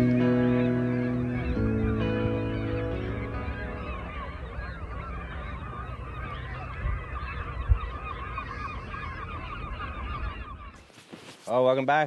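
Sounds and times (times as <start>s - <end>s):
geese honking: 0.0s - 11.4s.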